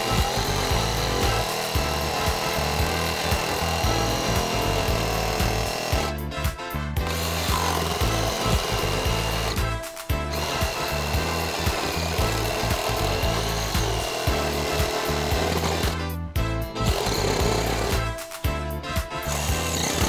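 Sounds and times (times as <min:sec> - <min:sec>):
reciprocating saw cutting wood: 0:00.0 - 0:06.2, 0:07.0 - 0:16.2, 0:16.8 - 0:18.4, 0:19.2 - 0:20.0.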